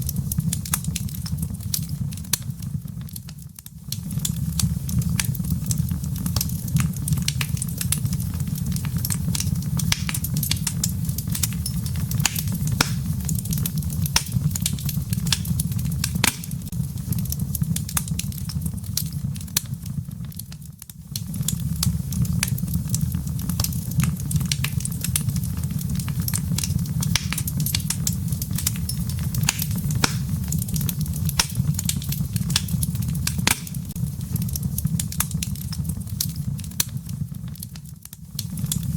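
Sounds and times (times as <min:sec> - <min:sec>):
fire burning in fireplace: 0:00.0 - 0:38.9
logs crackling and popping: 0:00.0 - 0:38.9.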